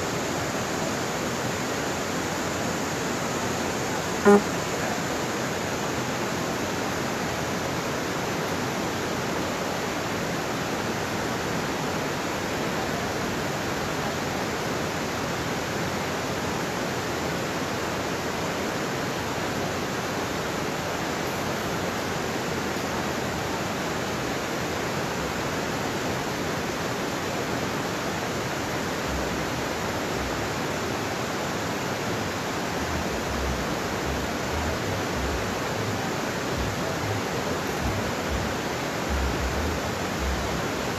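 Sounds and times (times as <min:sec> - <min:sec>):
creek over rocky rapids: 0:00.0 - 0:40.9
waterfall rushing: 0:00.0 - 0:40.9.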